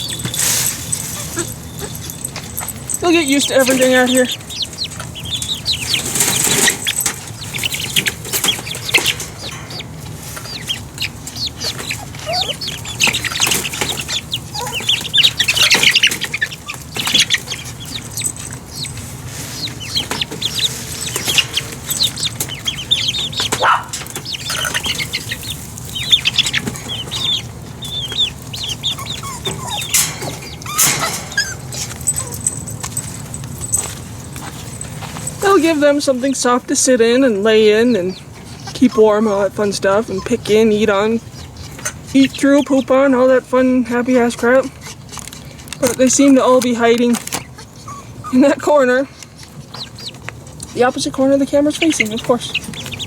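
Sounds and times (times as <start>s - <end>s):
young chickens peeping: 0.0s - 53.0s.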